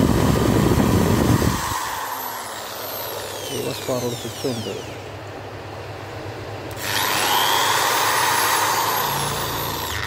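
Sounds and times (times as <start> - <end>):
electric drill whining: 0.0 - 5.1, 6.7 - 10.0.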